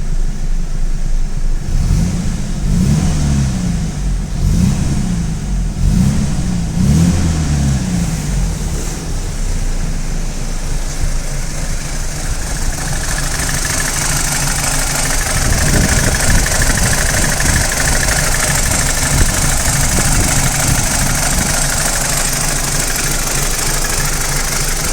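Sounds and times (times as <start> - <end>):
car engine revving and idling: 0.0 - 24.9
engine rattle: 0.0 - 24.9.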